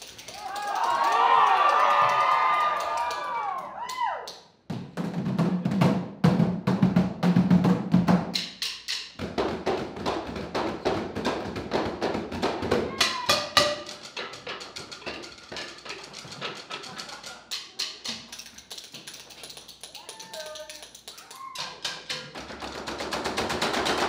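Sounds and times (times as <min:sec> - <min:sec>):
drumming with sticks on barrels: 0:00.0 - 0:24.0.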